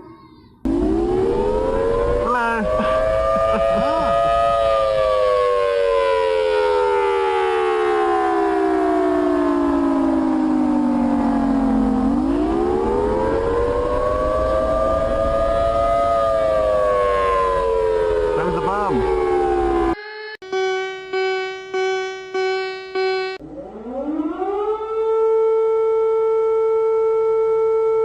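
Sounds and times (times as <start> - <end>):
civil defense siren winding: 0.7 - 28.0.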